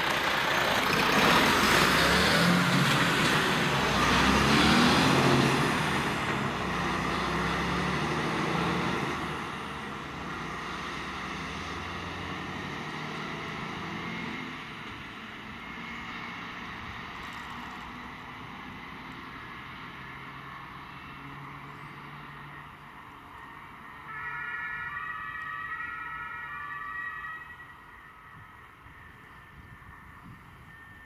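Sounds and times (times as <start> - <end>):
fire engine diesel engine: 0.0 - 31.0
truck tyres on road: 0.0 - 31.0.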